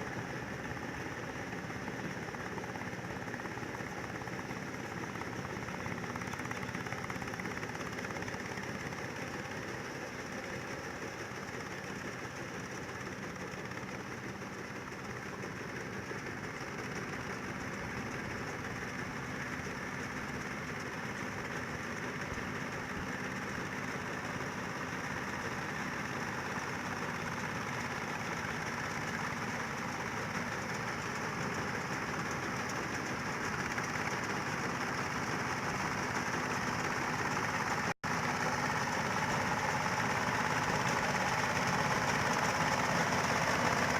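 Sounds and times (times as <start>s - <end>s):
combine harvester diesel engine: 0.0s - 43.9s.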